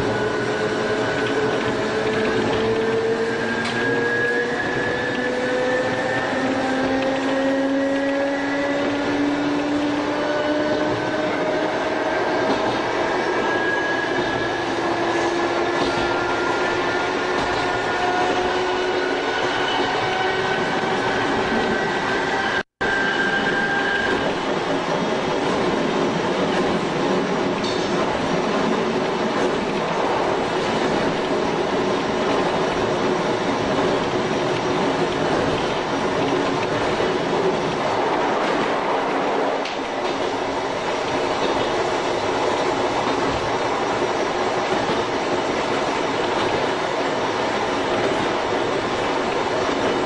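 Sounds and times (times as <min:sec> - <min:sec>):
wheels rumbling on rails: 0:00.0 - 0:50.0.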